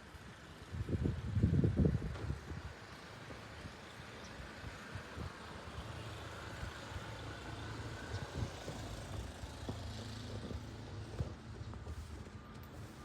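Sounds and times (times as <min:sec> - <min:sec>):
vehicle engine rumbling: 0:00.1 - 0:13.0.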